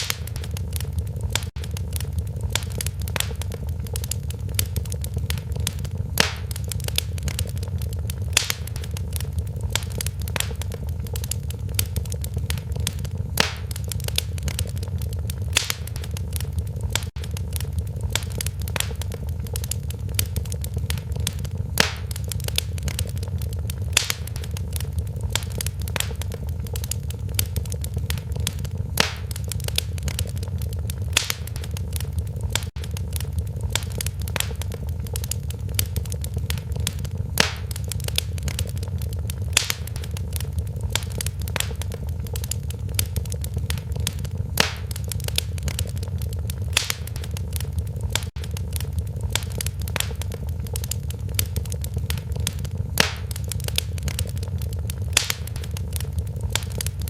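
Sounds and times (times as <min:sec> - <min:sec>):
low rumble of flames: 0:00.0 - 0:57.0
wood fire crackling and popping: 0:00.0 - 0:57.0.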